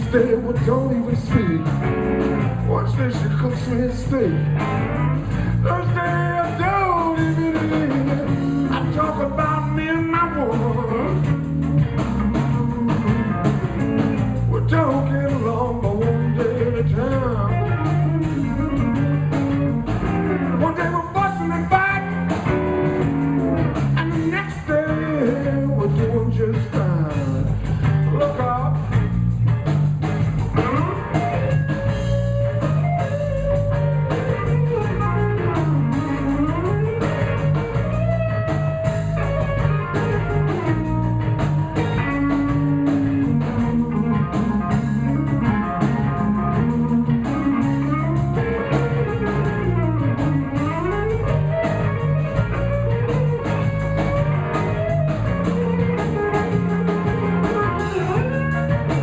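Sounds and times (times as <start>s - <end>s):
repeating bass line: 0.0s - 59.0s
steady drum-kit beat: 0.0s - 59.0s
lead guitar solo: 4.2s - 14.4s, 17.3s - 25.5s, 30.1s - 59.0s.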